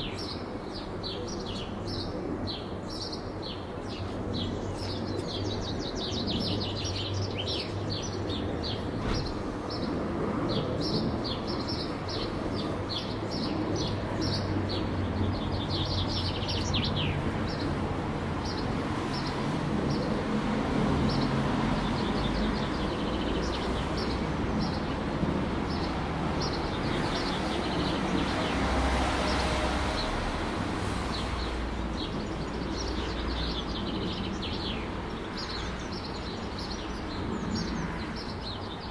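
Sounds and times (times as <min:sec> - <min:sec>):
small songbirds chirping: 0:00.0 - 0:20.3, 0:21.0 - 0:30.2, 0:30.8 - 0:38.9
low rumble of city traffic: 0:00.0 - 0:38.9.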